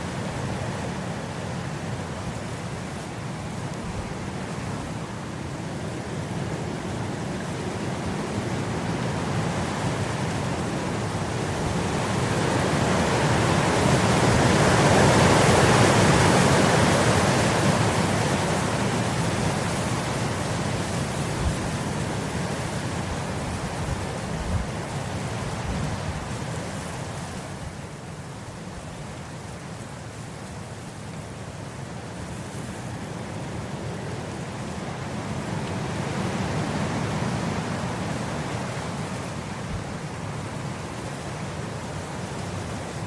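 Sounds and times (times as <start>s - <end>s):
wind blowing across grass: 0.0s - 43.0s.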